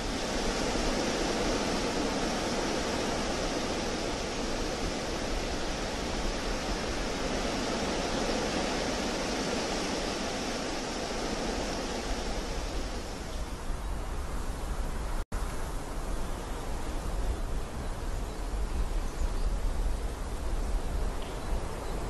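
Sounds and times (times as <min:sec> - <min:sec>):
wind blowing: 0:00.0 - 0:22.0.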